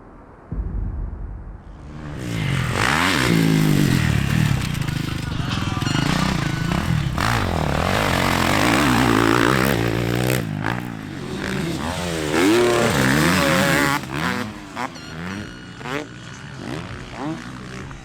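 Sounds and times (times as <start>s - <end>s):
motocross bikes revving: 1.9s - 18.0s.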